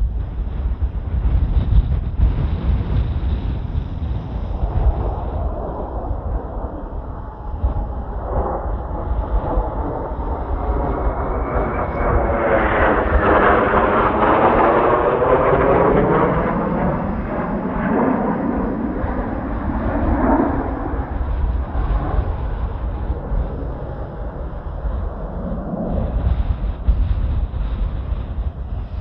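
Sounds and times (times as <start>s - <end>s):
jet flying past: 0.0s - 29.0s
wind buffeting microphone: 0.0s - 29.0s.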